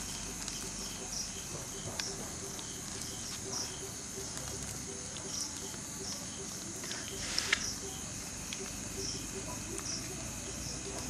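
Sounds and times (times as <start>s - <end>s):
crickets and insects calling: 0.0s - 11.0s.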